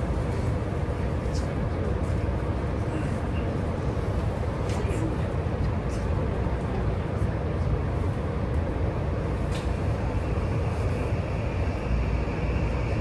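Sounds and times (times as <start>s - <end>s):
train rolling on track: 0.0s - 13.0s.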